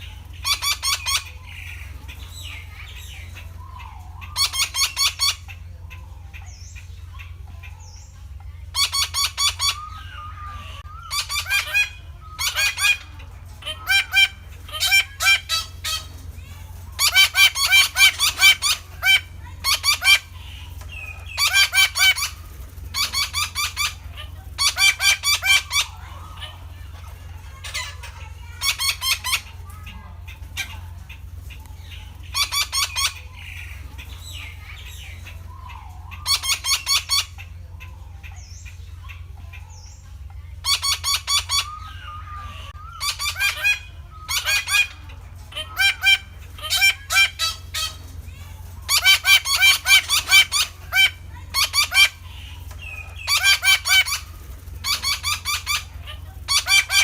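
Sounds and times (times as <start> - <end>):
parakeet calling: 0.0 - 16.1, 16.9 - 57.0
steady low hum: 0.0 - 57.0.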